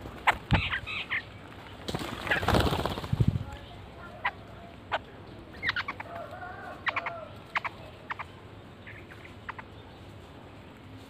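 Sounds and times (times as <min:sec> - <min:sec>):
birds calling sharply: 0:00.0 - 0:03.2, 0:04.0 - 0:11.0.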